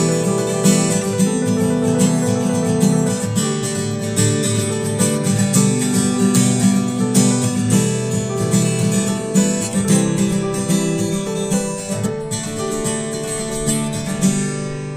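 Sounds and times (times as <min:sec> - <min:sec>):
acoustic guitar music: 0:00.0 - 0:14.9.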